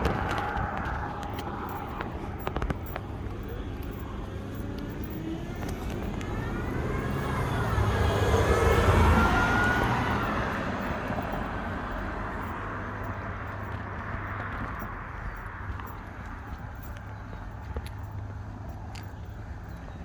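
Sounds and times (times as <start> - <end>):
motor vehicle passing by: 0.0 - 20.0.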